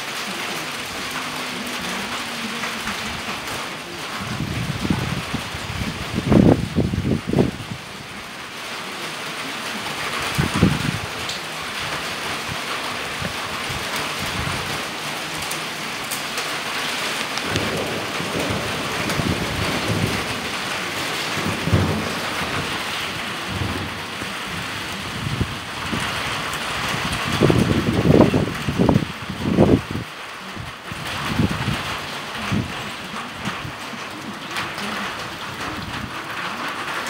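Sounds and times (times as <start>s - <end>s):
thunder rumbling: 0.0s - 8.7s, 9.4s - 37.0s
steady rain hiss: 0.0s - 37.0s.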